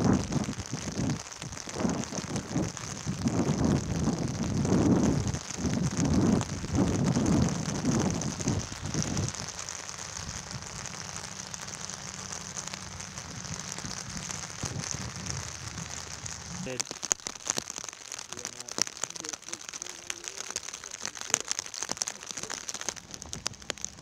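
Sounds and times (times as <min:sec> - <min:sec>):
wind gusting against microphone: 0:00.0 - 0:16.9, 0:18.1 - 0:24.0
light rain hiss: 0:00.0 - 0:24.0.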